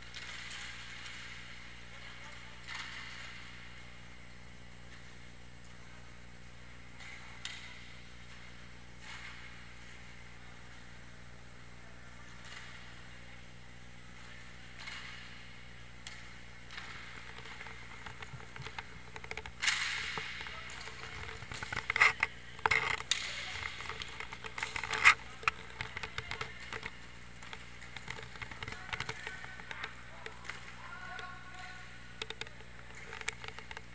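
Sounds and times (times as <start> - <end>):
hockey sticks and puck clacking: 0.0 - 3.8, 7.0 - 10.9, 12.1 - 13.0, 14.2 - 33.9.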